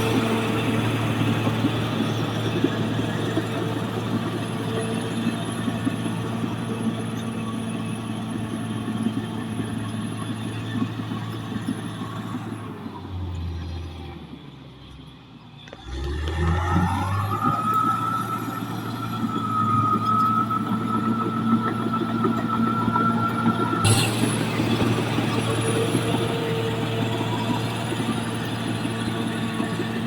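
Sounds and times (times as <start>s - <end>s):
bulldozer diesel engine revving: 0.0s - 14.1s, 15.7s - 30.0s.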